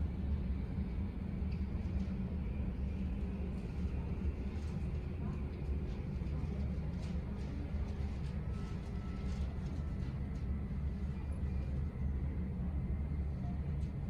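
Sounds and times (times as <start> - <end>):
airport terminal background rumble: 0.0 - 14.0.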